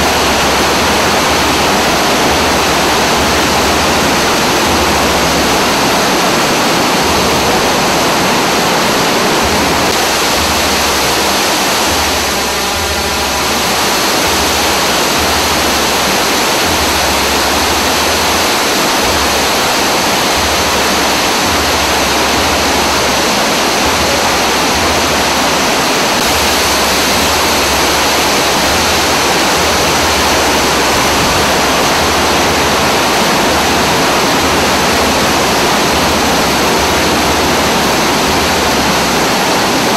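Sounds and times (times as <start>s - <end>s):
water cascading over rocks: 0.0s - 39.9s.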